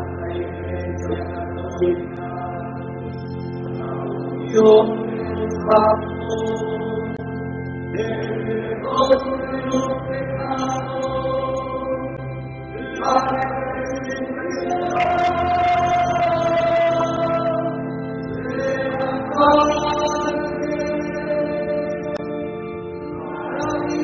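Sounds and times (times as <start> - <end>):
choir singing chant: 0.0 - 2.8, 3.7 - 7.2, 7.9 - 22.2, 23.2 - 24.0.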